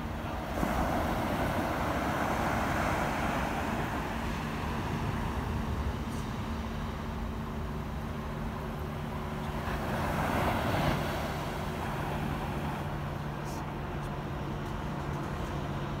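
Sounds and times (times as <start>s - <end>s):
ocean surf on beach: 0.0s - 16.0s
steady low hum: 0.0s - 16.0s.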